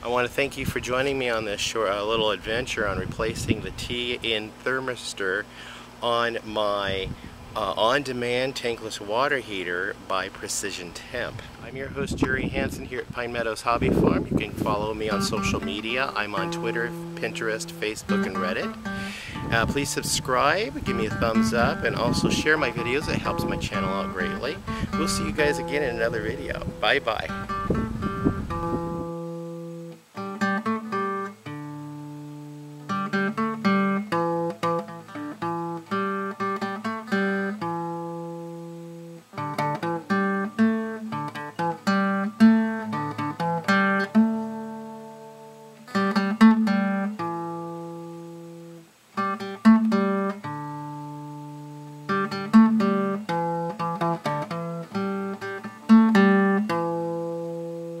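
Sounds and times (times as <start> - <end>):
picked acoustic guitar melody: 0.0 - 58.0.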